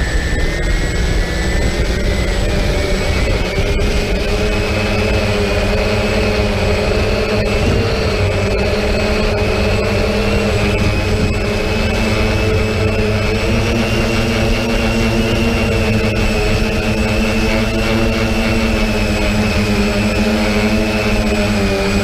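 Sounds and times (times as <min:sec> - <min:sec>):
drone motors whining: 0:00.0 - 0:22.0
wind rumble: 0:00.0 - 0:22.0.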